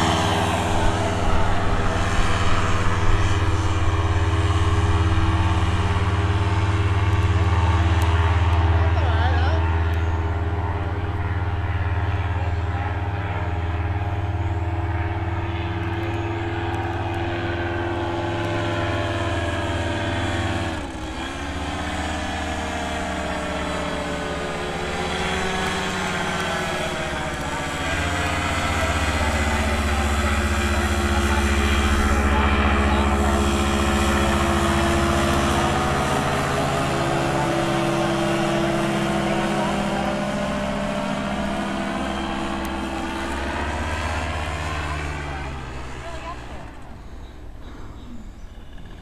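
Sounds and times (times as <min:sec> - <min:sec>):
paramotor engine droning overhead: 0:00.0 - 0:49.0.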